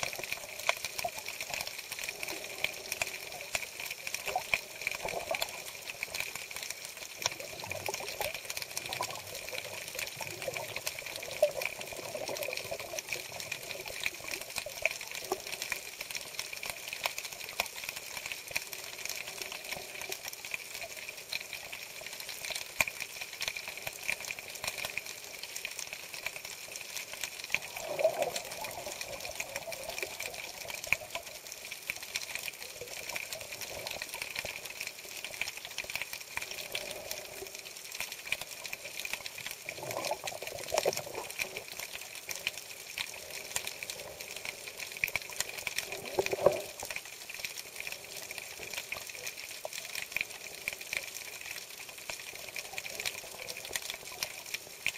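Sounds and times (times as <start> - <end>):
muffled rushes of water: 0.0 - 54.9
underwater crackle of clicks: 0.0 - 54.9.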